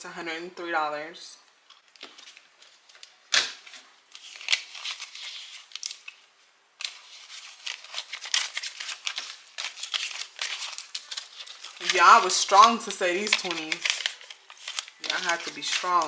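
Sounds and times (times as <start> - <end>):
paper banknotes rustling: 2.0 - 16.0.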